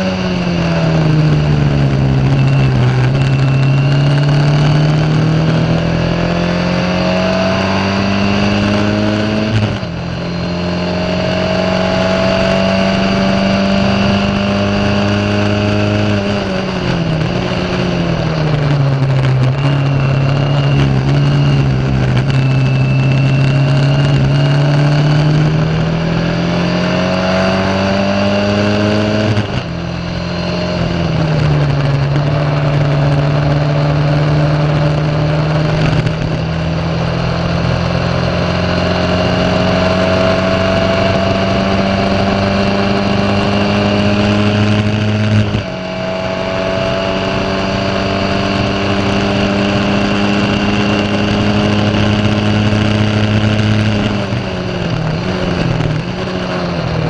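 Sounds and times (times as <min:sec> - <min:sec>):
racing car engine at full throttle: 0:00.0 - 0:57.0.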